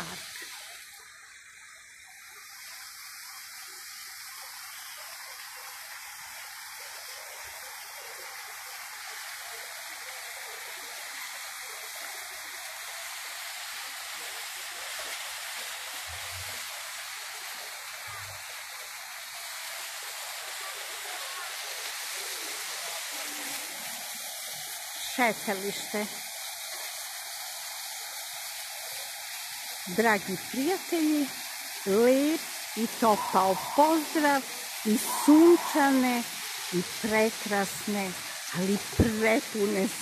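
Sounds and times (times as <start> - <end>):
fountain water splashing: 0.0 - 40.0.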